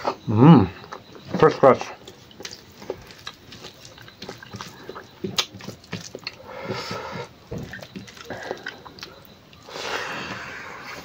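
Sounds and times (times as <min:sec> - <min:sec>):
chewing and lip smacks: 0:00.8 - 0:06.5, 0:07.4 - 0:11.0.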